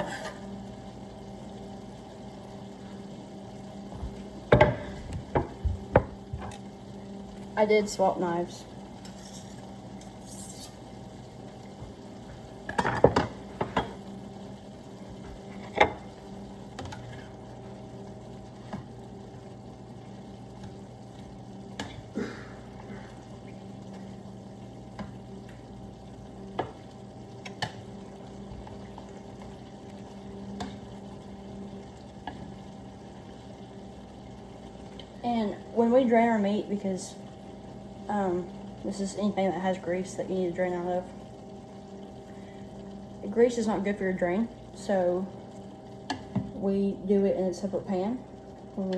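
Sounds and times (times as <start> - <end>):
meat and onions frying: 0.0 - 48.9
steady low hum: 0.0 - 48.9.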